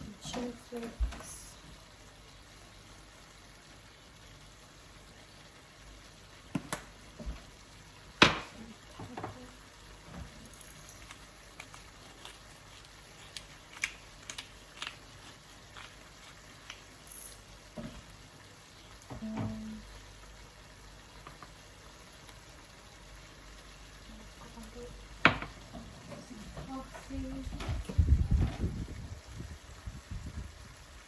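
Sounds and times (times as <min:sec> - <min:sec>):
faint hiss of food cooking: 0:00.0 - 0:31.0.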